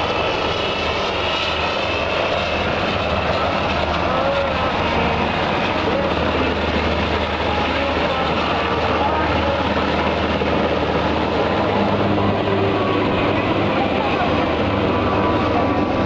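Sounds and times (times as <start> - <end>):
aircraft engines droning: 0.0 - 16.0.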